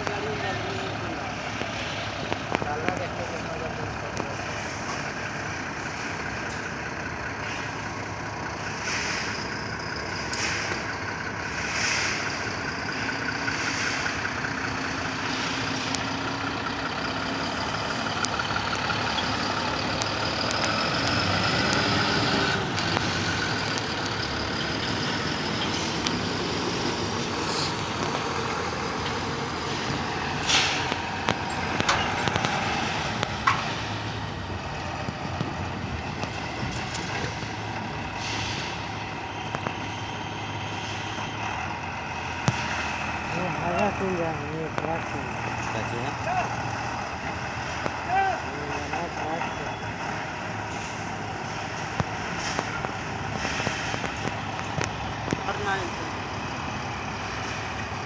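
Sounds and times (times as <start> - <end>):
heavy truck engine running: 0.0 - 58.0.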